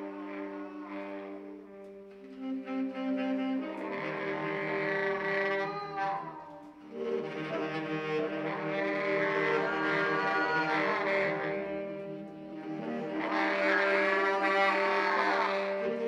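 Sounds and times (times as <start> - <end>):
baritone saxophones improvising: 0.0 - 16.0.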